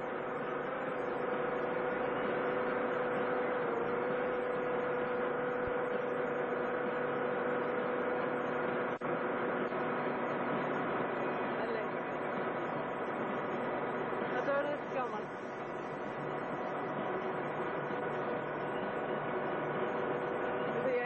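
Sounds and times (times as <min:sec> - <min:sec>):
constant mid-pitched tone: 0:00.0 - 0:21.0.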